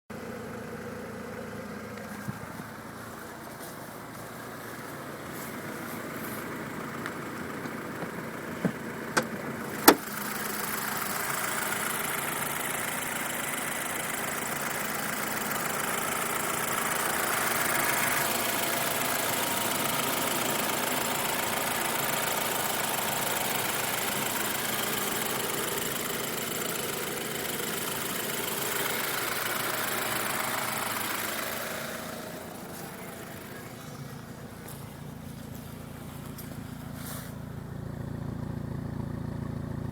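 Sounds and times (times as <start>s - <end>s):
car engine starting and idling: 0.1s - 39.9s.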